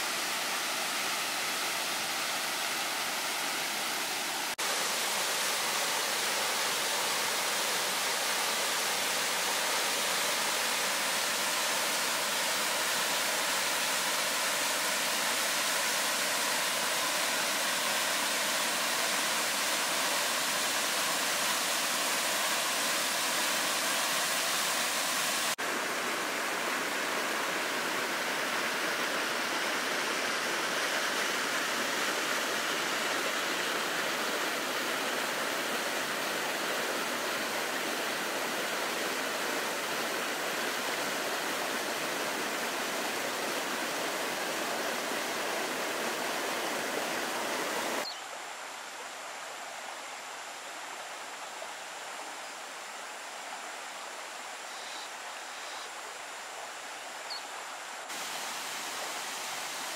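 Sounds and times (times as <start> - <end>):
waterfall rushing: 0.0 - 48.1, 56.0 - 59.9.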